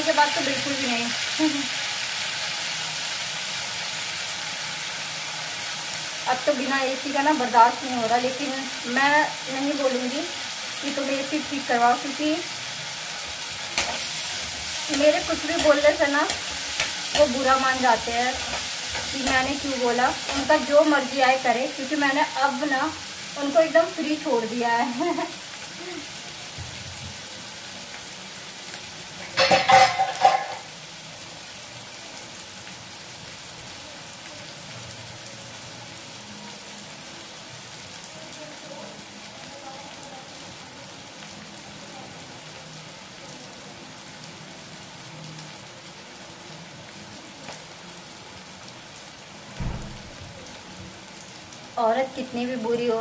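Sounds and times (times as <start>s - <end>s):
hot oil sizzling in a pan: 0.0s - 53.0s.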